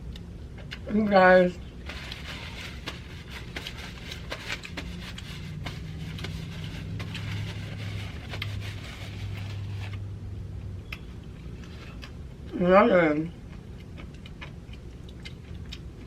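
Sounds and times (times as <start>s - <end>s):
chewing and crunching food: 0.0s - 12.6s, 13.2s - 16.0s
low steady hum: 0.0s - 16.0s.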